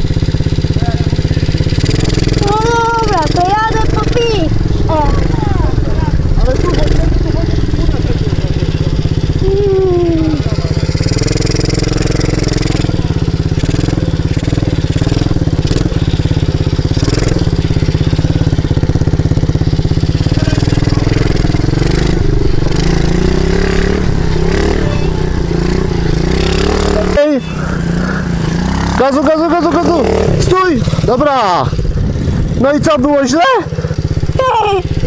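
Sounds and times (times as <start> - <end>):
dirt bike engine at low revs: 0.0 - 35.0.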